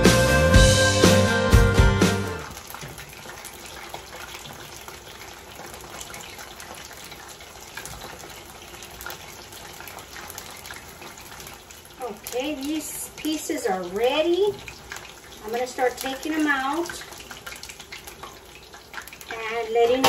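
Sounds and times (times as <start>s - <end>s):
chicken deep-frying in oil: 2.4s - 20.0s.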